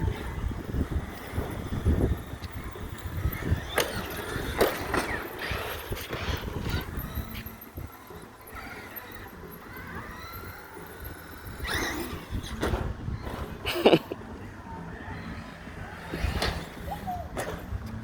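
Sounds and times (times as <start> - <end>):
toy car motors whining: 0.0 - 18.0.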